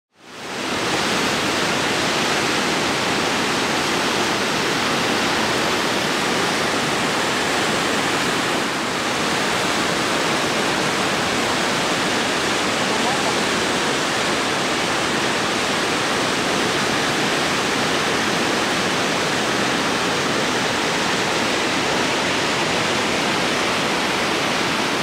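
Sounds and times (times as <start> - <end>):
waterfall roaring: 0.2 - 25.0.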